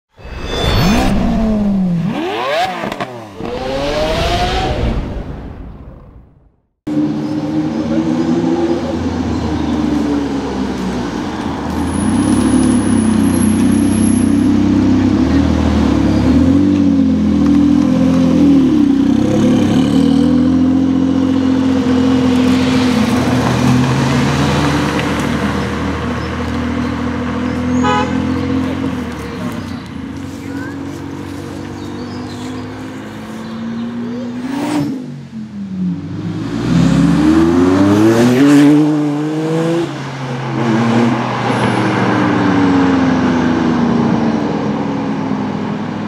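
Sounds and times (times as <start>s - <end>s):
other car engines: 0.2s - 46.0s.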